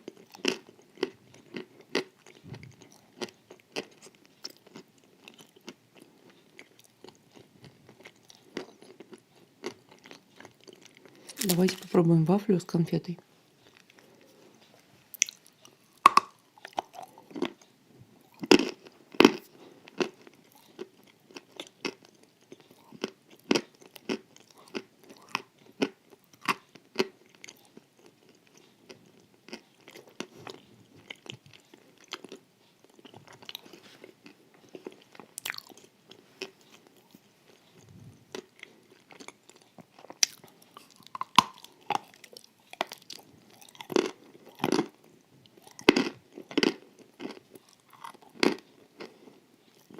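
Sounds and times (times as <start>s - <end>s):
person chewing crunchy wafer: 0.0s - 12.0s, 13.6s - 49.9s.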